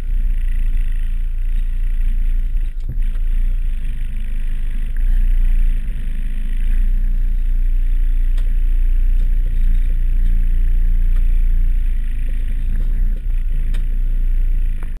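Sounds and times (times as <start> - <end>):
van engine rumbling: 0.0 - 15.0.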